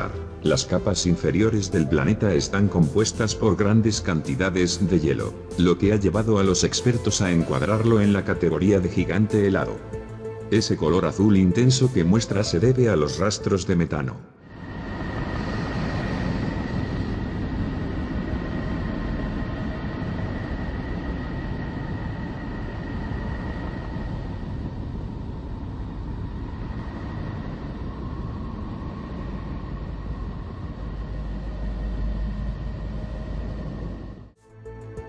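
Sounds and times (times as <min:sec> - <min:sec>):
deep rumbling hiss: 0:00.0 - 0:35.0.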